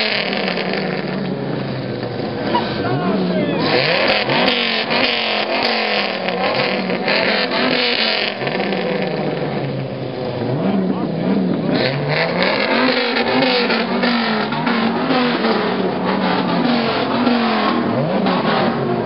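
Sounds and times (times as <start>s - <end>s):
onlookers talking: 0.0s - 19.0s
pickup truck engine revving: 0.0s - 19.0s.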